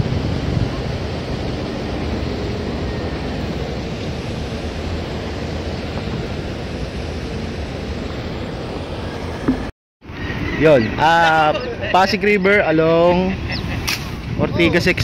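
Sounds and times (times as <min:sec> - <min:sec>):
wind on microphone: 0:00.0 - 0:11.0, 0:13.2 - 0:15.0
road traffic rumble: 0:00.0 - 0:15.0.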